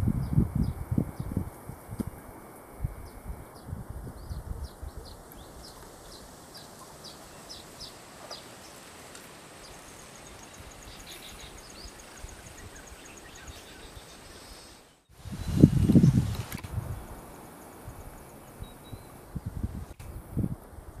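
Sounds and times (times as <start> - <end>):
faint outdoor hiss: 0.0 - 21.0
small birds calling: 0.1 - 19.4.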